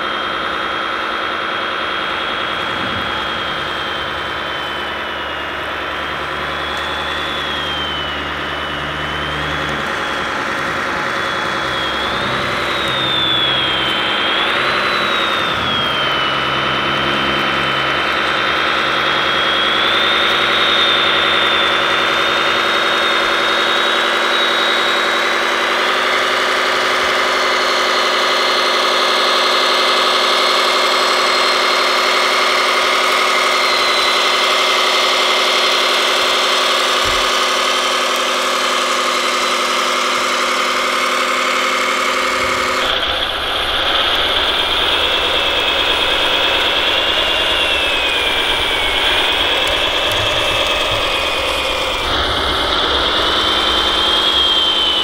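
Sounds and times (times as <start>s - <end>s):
simulated diesel truck engine: 0.0s - 55.0s
thin high whine: 0.0s - 55.0s.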